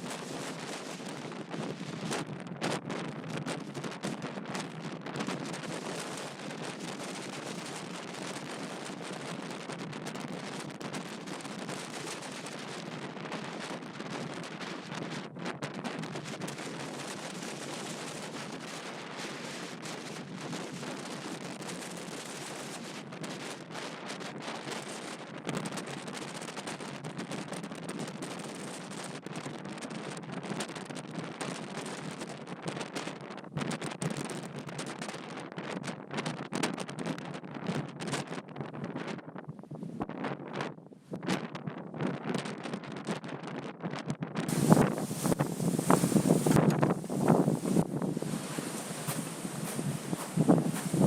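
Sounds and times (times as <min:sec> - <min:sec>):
wind blowing across microphone: 0:00.0 - 0:51.0.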